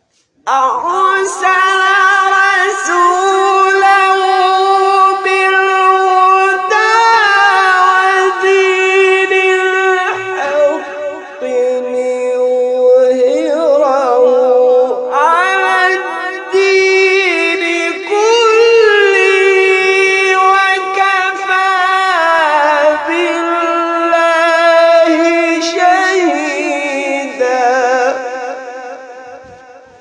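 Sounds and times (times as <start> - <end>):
person chanting recitation: 0.0 - 30.0.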